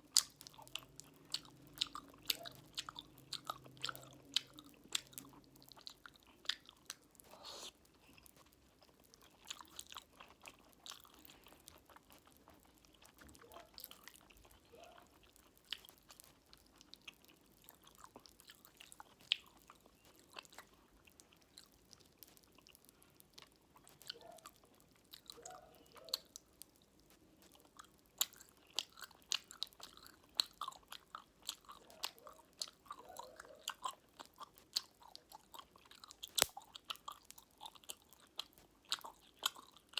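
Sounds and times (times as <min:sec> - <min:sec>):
popping candy crackles: 0:00.0 - 0:39.9
soft wet chewing: 0:00.0 - 0:39.9.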